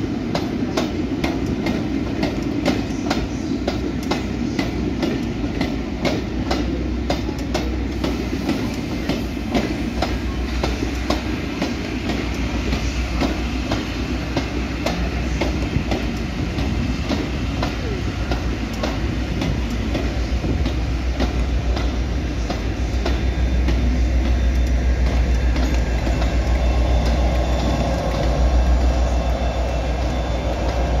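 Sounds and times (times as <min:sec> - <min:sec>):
diesel locomotive engine drone: 0:00.0 - 0:31.0
train rumble: 0:00.0 - 0:31.0
wheels clicking over rail joints: 0:00.3 - 0:31.0.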